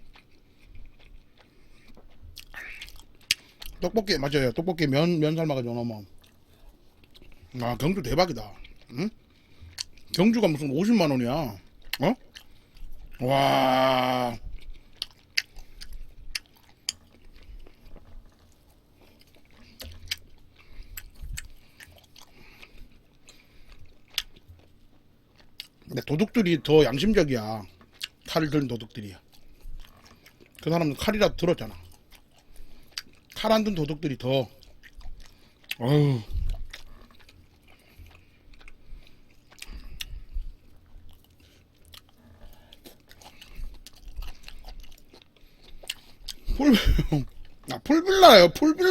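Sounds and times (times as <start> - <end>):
person chewing food: 0.0 - 48.8.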